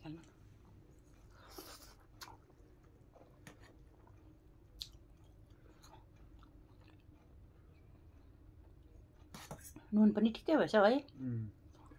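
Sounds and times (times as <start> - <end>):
soft chewing: 0.0 - 10.0, 11.0 - 11.9.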